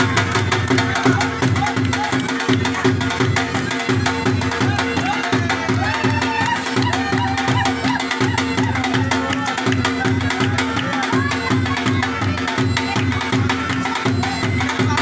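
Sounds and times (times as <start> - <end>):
folk tune: 0.0 - 15.0
hand drum beat: 0.0 - 15.0.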